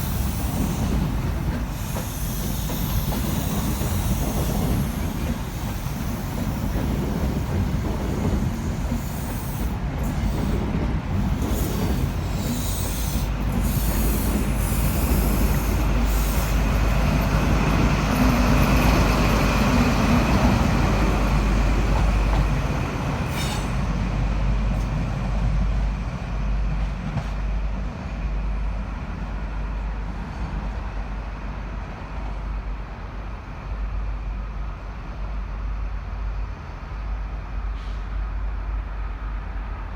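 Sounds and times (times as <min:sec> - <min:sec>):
diesel train engine hum: 0:00.0 - 0:39.9
rail noise: 0:00.0 - 0:39.9.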